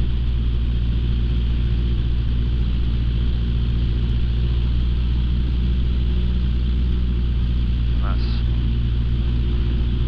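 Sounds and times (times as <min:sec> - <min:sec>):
light aircraft piston engine: 0:00.0 - 0:10.0.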